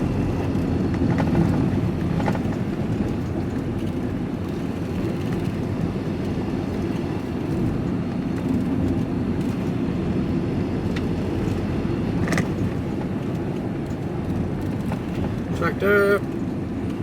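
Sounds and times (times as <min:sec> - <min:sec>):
van engine and tyre rumble: 0:00.0 - 0:17.0.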